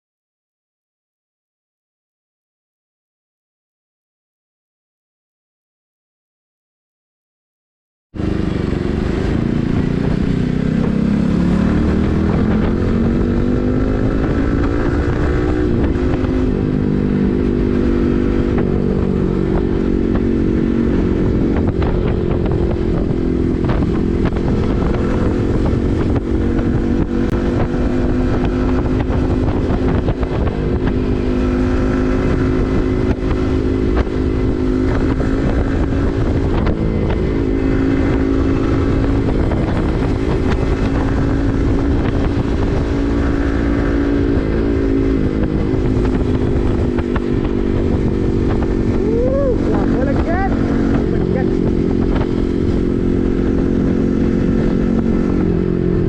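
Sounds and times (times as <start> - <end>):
motorcycle engine while riding: 8.2 - 56.0.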